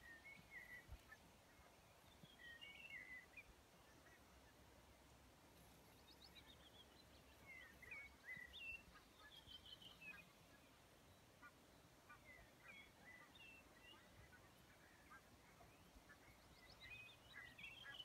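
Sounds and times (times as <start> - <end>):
faint birdsong chirps and whistles: 0.0 - 4.5, 5.8 - 18.0
faint low background noise: 0.0 - 18.0.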